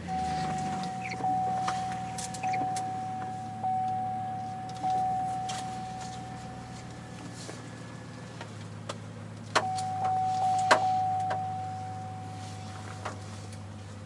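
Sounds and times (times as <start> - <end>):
car warning chime dinging: 0.0 - 8.0, 9.5 - 13.0
car engine idling: 0.0 - 14.0.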